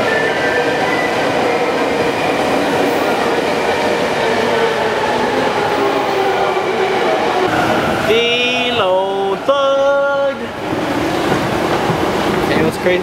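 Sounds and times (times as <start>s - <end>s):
subway train running: 0.0s - 13.0s
commuters walking: 0.6s - 13.0s.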